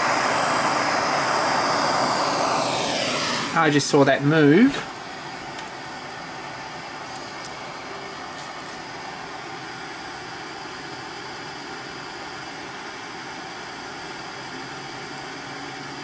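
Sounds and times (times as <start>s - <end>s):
gas torch hissing: 0.0s - 14.3s.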